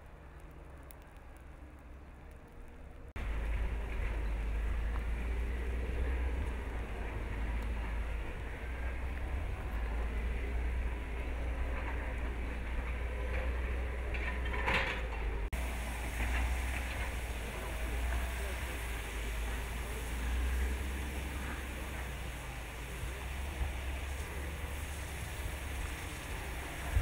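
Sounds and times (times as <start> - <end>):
rustle: 0.0 - 27.0
wind buffeting microphone: 0.7 - 27.0.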